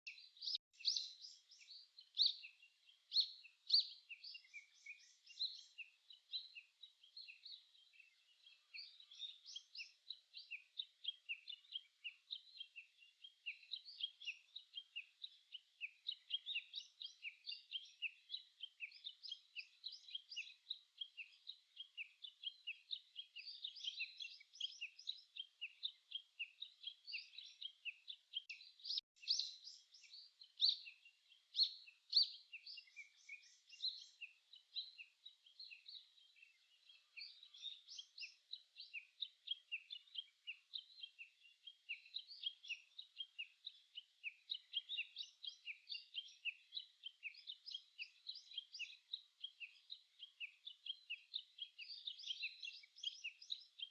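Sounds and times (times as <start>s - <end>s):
songbirds chirping and singing: 0.0s - 53.9s.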